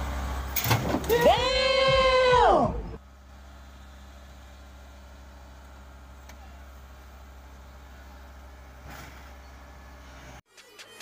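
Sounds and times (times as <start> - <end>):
diesel engine low hum: 0.0 - 10.5.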